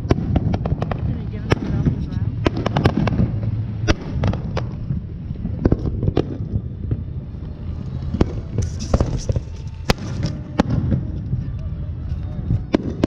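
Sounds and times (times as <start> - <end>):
firework crackling hiss: 0.0 - 11.4
firework bangs: 0.0 - 11.5, 12.4 - 13.0
low rumble: 0.0 - 13.0.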